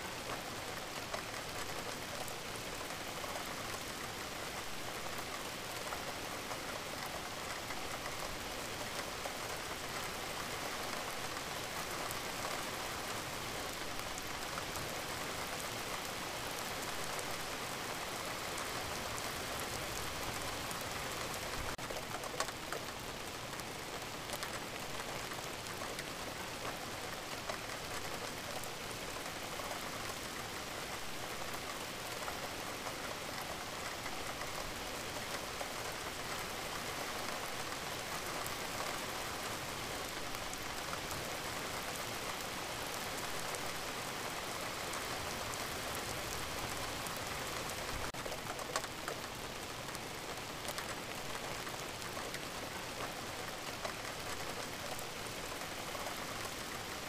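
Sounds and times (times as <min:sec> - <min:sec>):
patter of raindrops: 0:00.0 - 0:57.0
steady rain falling: 0:00.0 - 0:57.0.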